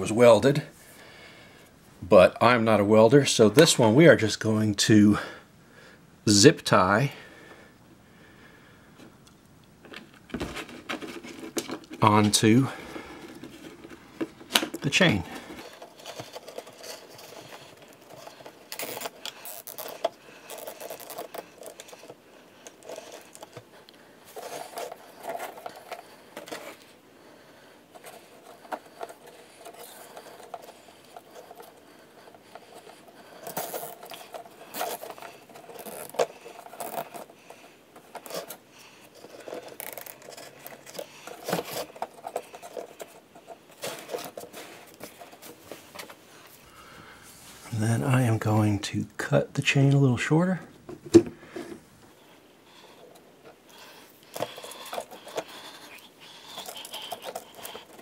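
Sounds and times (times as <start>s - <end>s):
scraping and handling noises: 9.0s - 58.0s.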